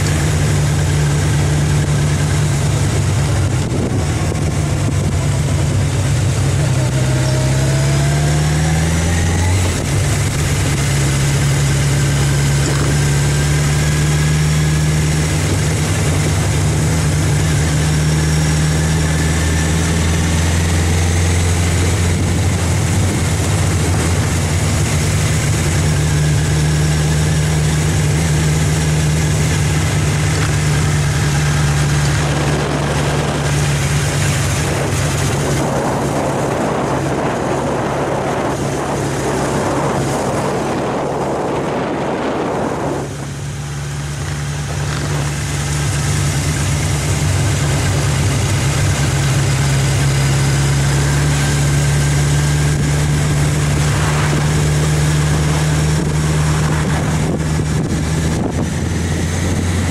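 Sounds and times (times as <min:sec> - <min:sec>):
rushing noise: 0:00.0 - 0:59.9
vehicle engine humming: 0:00.0 - 0:59.9.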